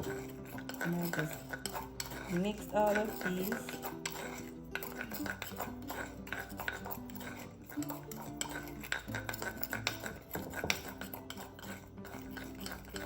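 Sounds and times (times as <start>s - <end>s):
spoon stirring in a bowl: 0.0s - 13.0s.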